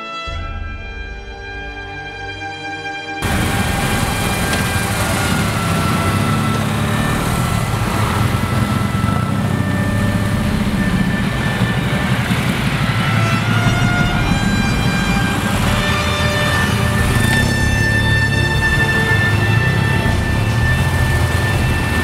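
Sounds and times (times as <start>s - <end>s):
motorcycles riding past: 3.2s - 22.0s.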